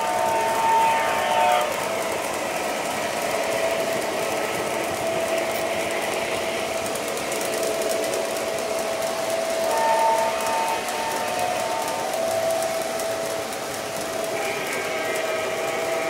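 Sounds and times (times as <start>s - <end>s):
fine clicking: 0.0s - 16.0s
model train motors whirring: 0.0s - 16.0s.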